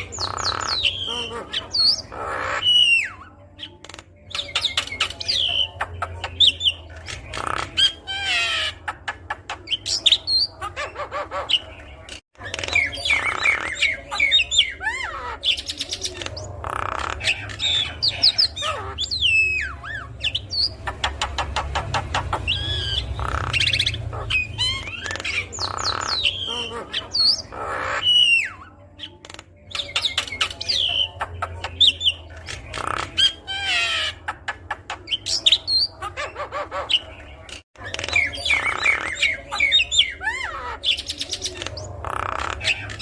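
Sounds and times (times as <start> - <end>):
myna bird chattering song: 0.0 - 43.0.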